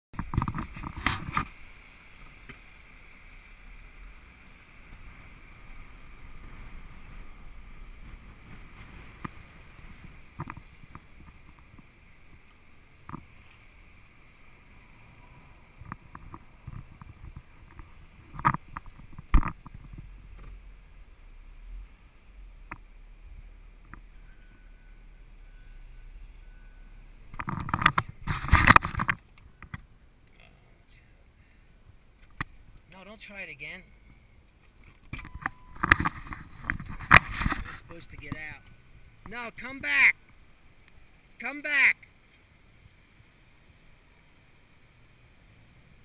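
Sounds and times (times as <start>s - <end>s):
vehicle cabin noise: 0.2s - 40.3s.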